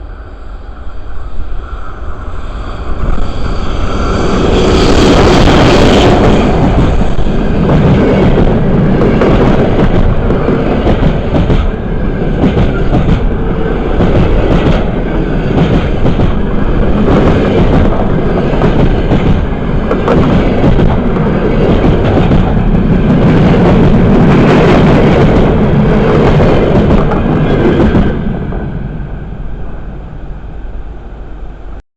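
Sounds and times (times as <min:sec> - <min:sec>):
train rumbling over rails: 0:00.0 - 0:31.8
wheels clacking over rail joints: 0:03.0 - 0:28.8.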